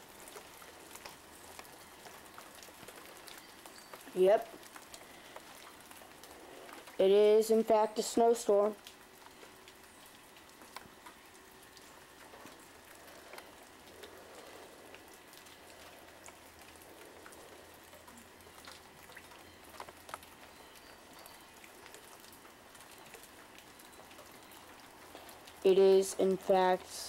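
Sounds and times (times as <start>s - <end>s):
wet snow pattering on surfaces: 0.0s - 27.0s.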